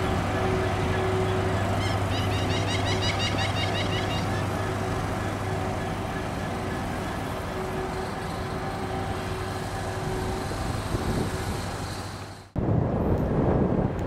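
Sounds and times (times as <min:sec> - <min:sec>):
faint steady tones: 0:00.0 - 0:12.6
diesel locomotive engine drone: 0:00.0 - 0:14.0.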